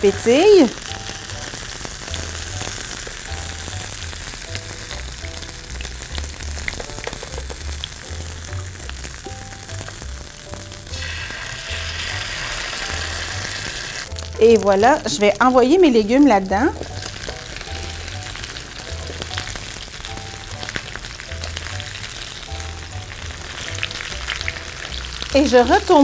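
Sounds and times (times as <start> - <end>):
beef bones sizzling in skillet: 0.0 - 26.0.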